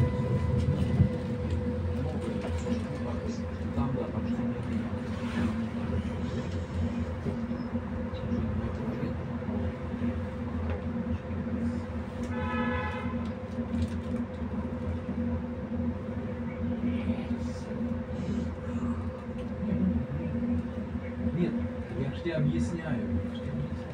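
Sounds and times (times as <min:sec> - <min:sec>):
tram electrical hum: 0:00.0 - 0:23.9.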